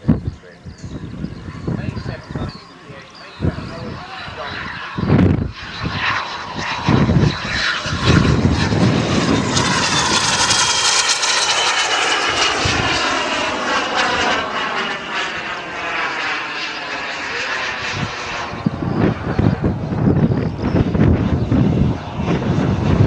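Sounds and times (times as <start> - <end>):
model aircraft engine running: 0.0 - 23.0.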